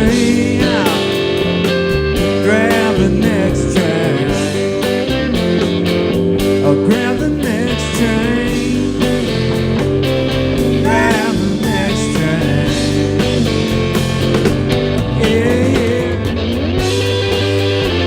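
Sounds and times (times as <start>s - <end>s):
bass guitar: 0.0s - 18.0s
drums: 0.0s - 18.0s
lead guitar bending notes: 0.0s - 18.0s.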